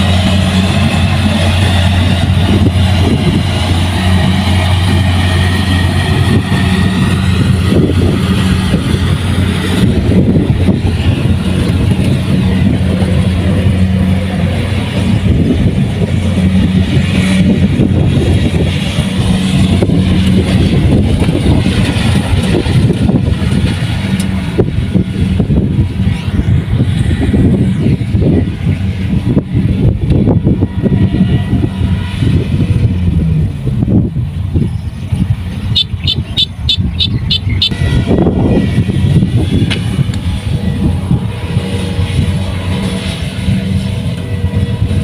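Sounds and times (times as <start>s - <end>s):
combine harvester engine drone: 0.0s - 45.0s
machinery noise: 0.0s - 45.0s.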